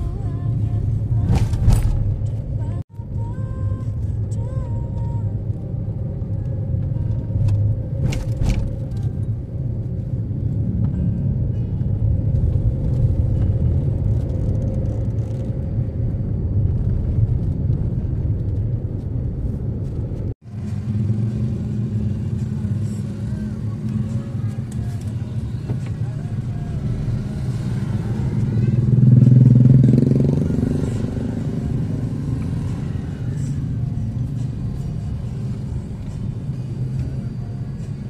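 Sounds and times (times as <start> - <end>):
car engine and tyres rumbling: 0.0 - 38.0.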